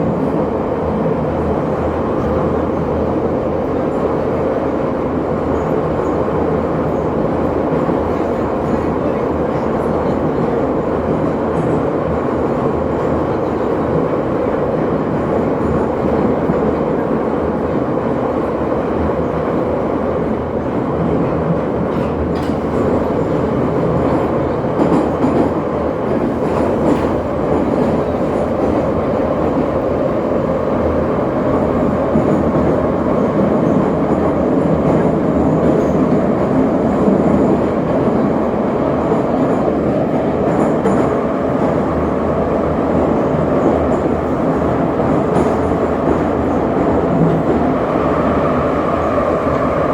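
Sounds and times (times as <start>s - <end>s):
metro train wheels and motors: 0.0s - 49.9s.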